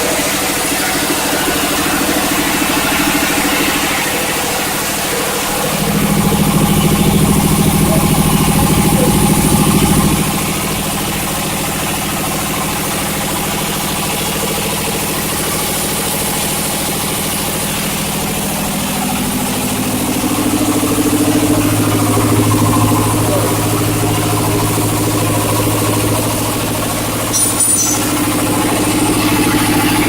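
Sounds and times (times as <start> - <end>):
machine motor hum: 0.0 - 30.0.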